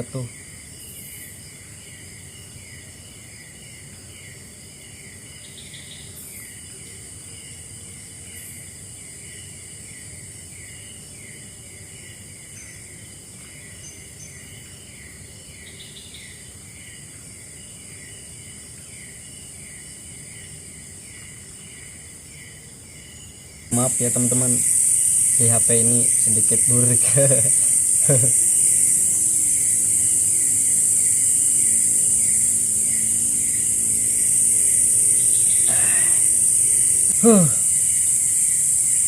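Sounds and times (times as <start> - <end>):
insect chirps: 0.0 - 39.0
insect chorus droning: 0.0 - 39.0
insect trills: 0.0 - 39.0.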